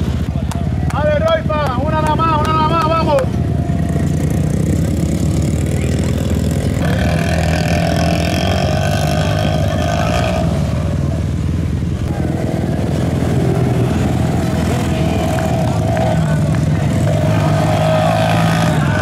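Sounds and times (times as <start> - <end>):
racing quad engines: 0.0 - 19.0.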